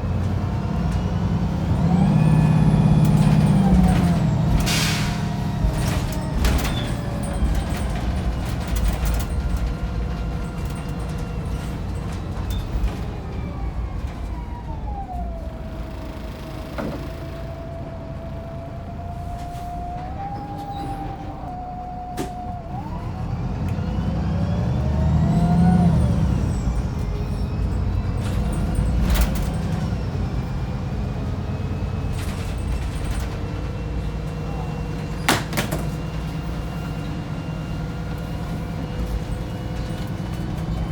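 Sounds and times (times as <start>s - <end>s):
bus engine drone with whine: 0.0s - 40.9s.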